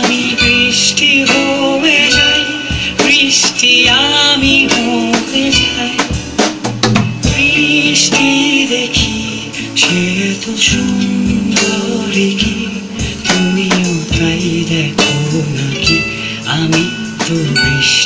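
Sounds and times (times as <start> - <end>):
person singing melody: 0.0 - 6.2, 7.2 - 18.0
band music: 0.0 - 18.0
drum kit beat: 0.0 - 18.0.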